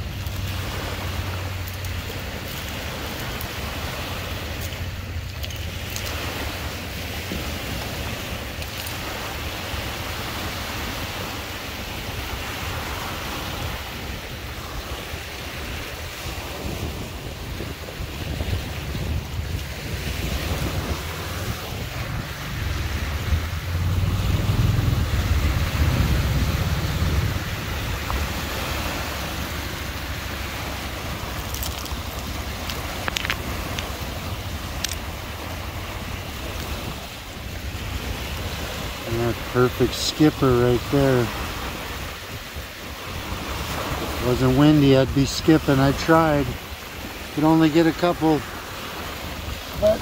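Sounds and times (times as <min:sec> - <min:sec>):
lake waves washing on shore: 0:00.0 - 0:50.0
wind buffeting microphone: 0:00.0 - 0:50.0.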